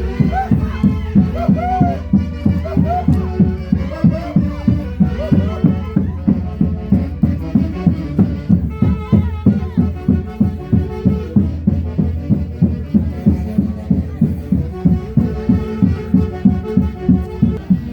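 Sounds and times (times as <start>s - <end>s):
folk orchestra playing: 0.0s - 17.9s.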